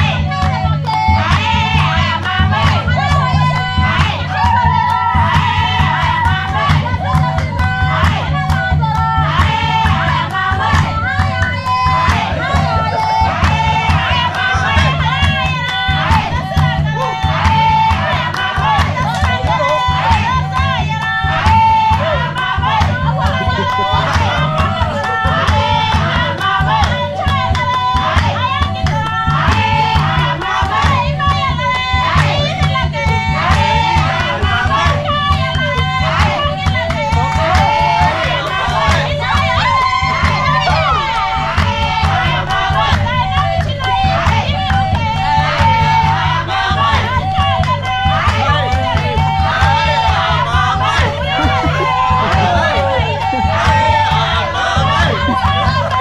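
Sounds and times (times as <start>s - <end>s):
group singing a chant: 0.0s - 56.0s
rhythmic hand-clapping: 0.0s - 56.0s
steady drum beat: 0.0s - 56.0s.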